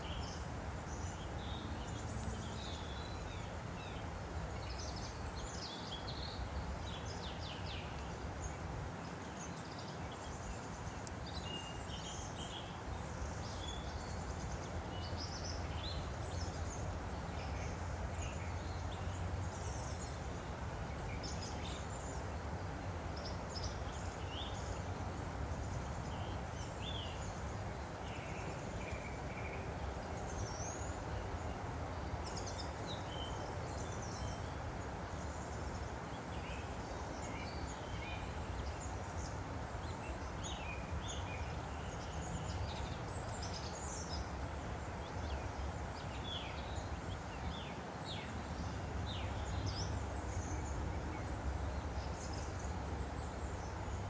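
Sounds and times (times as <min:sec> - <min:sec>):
songbirds chirping: 0:00.0 - 0:54.0
stream flowing: 0:00.0 - 0:54.0.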